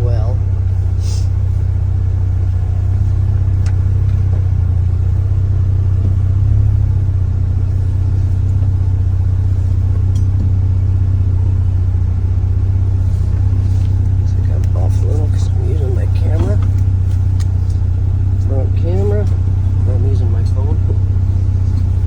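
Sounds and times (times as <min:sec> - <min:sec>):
engine running at low speed: 0:00.0 - 0:22.0.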